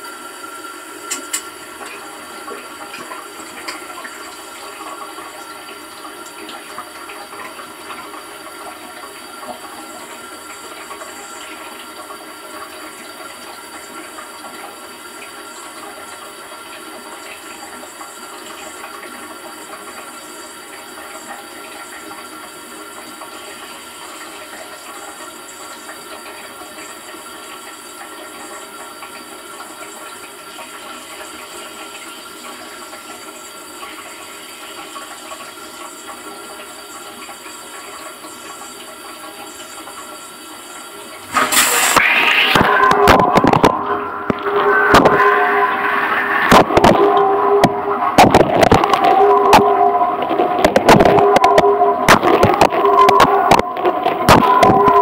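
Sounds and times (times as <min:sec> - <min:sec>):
dishwasher running: 0:00.0 - 0:55.0.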